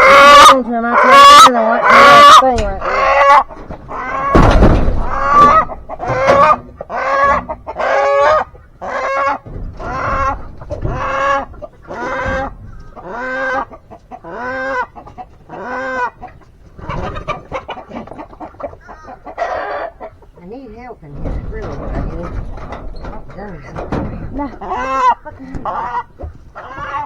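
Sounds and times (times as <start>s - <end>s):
chicken calling: 0.0s - 27.0s.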